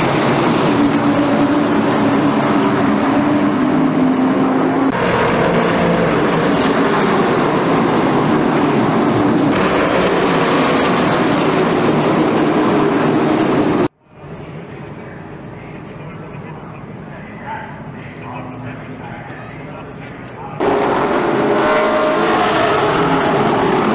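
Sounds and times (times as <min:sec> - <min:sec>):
race car engines droning: 0:00.0 - 0:23.9.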